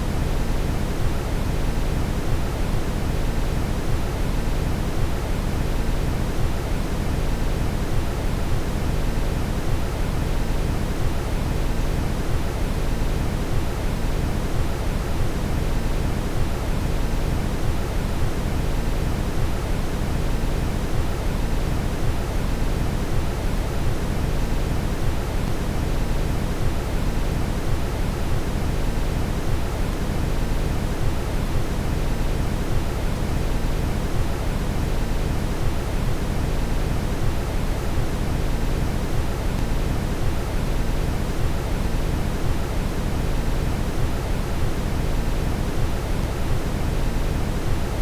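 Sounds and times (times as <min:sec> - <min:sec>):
brown noise hiss: 0:00.0 - 0:48.0.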